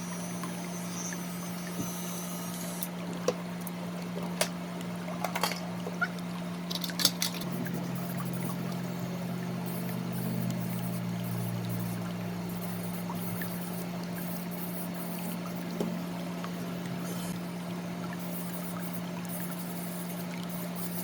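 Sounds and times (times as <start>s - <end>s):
lower hum: 0.0s - 19.5s.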